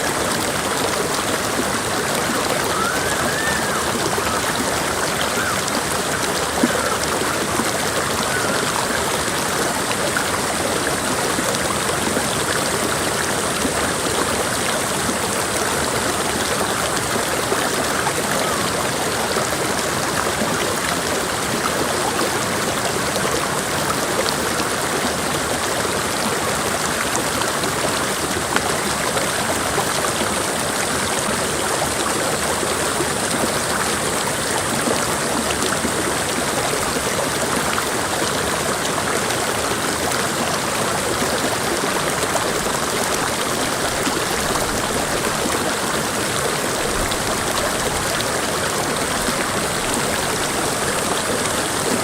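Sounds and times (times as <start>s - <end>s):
creek water flowing: 0.0s - 52.0s.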